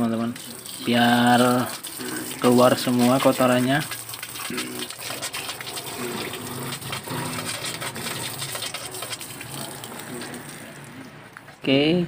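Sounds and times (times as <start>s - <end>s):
hose water splashing into tub: 0.0s - 11.1s.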